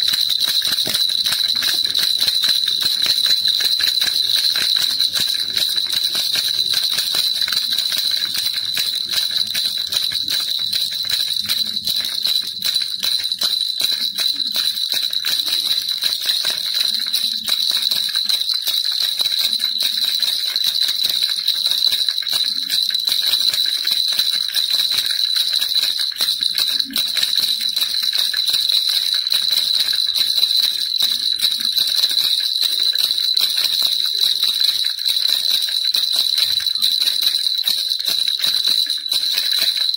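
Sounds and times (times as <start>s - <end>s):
baby rattle jingling: 0.0s - 39.9s.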